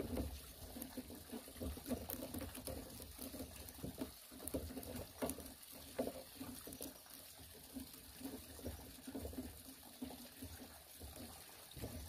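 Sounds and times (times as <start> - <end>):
bamboo strip rustling and creaking: 0.0 - 12.0.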